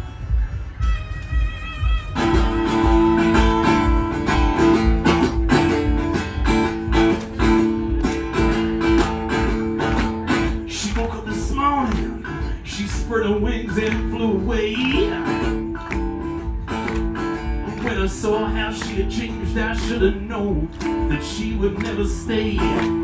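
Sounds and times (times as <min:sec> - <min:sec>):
strummed acoustic guitar: 0:02.1 - 0:23.0.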